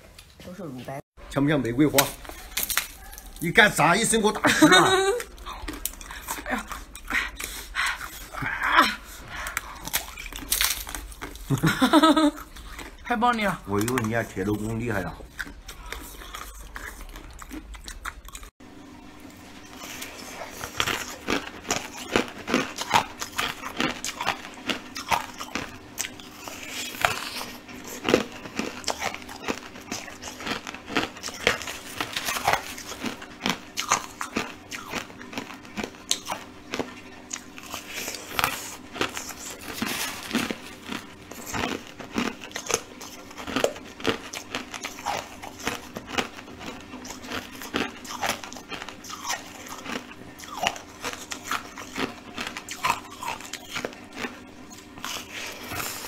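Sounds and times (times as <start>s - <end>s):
steady low hum: 0.0s - 56.0s
crunching ice: 1.9s - 4.4s, 9.8s - 18.0s, 19.8s - 56.0s.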